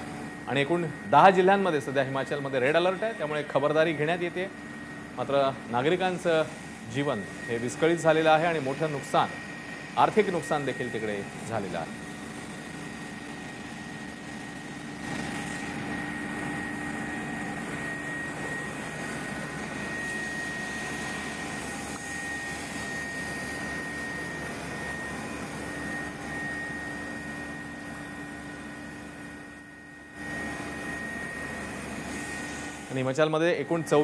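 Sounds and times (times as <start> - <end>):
helicopter engine and rotor drone: 0.0 - 34.0
high whine: 0.0 - 34.0.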